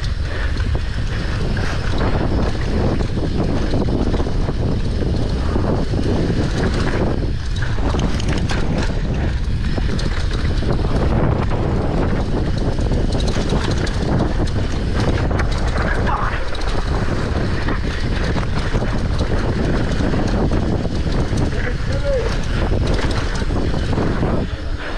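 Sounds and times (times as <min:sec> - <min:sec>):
clicks and rattles: 0:00.0 - 0:24.7
wind buffeting microphone: 0:00.0 - 0:24.9.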